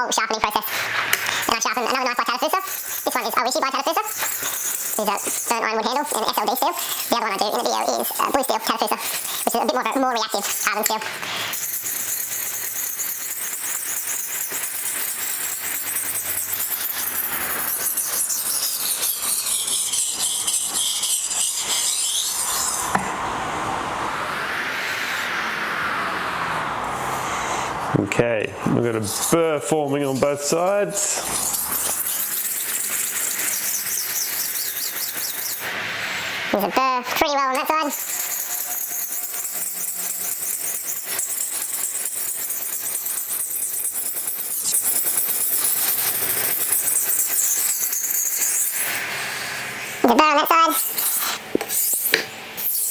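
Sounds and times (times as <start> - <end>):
knife grinding on whetstone: 0.0 - 23.1, 28.9 - 52.9.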